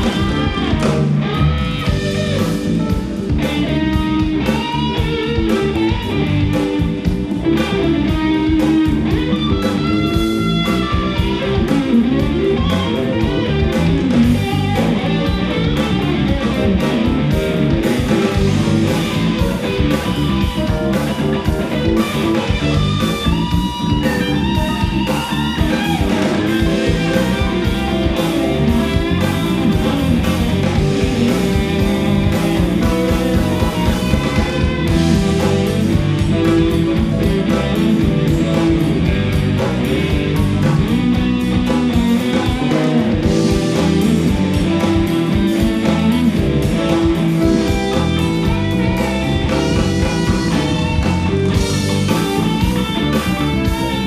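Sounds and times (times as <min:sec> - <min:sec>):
bass guitar: 0:00.0 - 0:54.0
drum kit: 0:00.0 - 0:54.0
lead electric guitar: 0:00.0 - 0:54.0.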